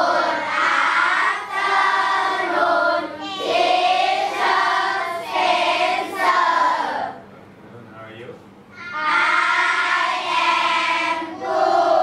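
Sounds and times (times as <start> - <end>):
children singing in unison: 0.0 - 7.1, 8.8 - 12.0.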